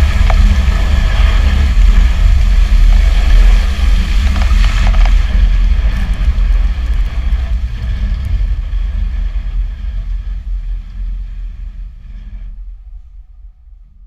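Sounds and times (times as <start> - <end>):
truck engine rumbling: 0.0 - 13.7.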